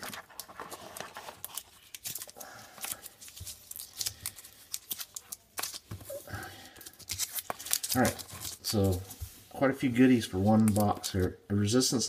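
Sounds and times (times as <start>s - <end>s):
trading cards clicking and rustling: 0.0s - 9.2s, 10.5s - 11.2s.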